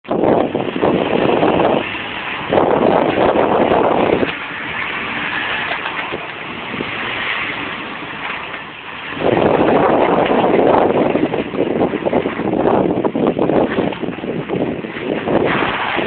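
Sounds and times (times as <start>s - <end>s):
vehicle engine: 0.0s - 16.0s
wind buffeting microphone: 0.0s - 16.0s.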